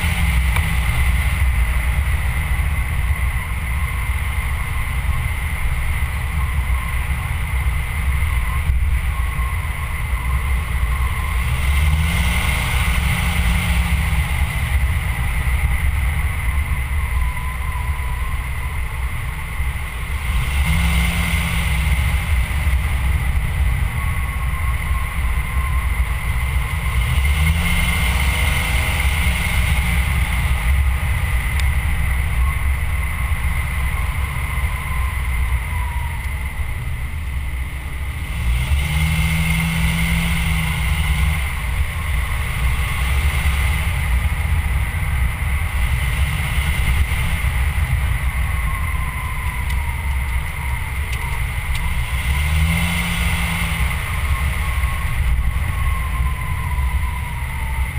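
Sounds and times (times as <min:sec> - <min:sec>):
vehicle engine revving: 0:00.0 - 0:57.9
wind and road noise: 0:00.0 - 0:57.9.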